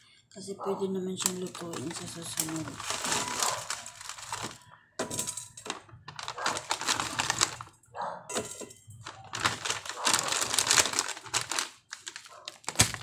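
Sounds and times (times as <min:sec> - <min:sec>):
plastic bag crinkling: 0:01.1 - 0:07.8, 0:08.9 - 0:13.0.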